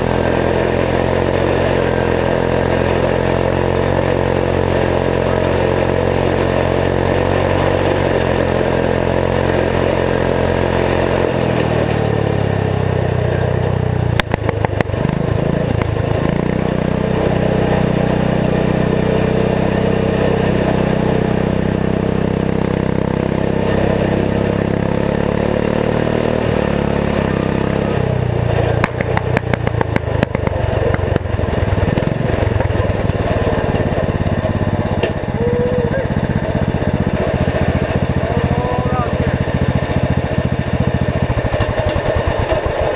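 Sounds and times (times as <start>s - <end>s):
garden tractor engine running: 0.0s - 42.9s.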